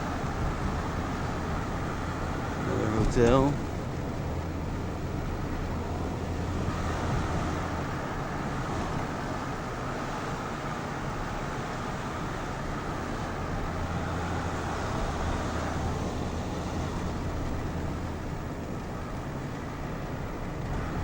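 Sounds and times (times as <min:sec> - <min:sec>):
car engine: 0:00.0 - 0:21.0
road noise inside car: 0:00.0 - 0:21.0.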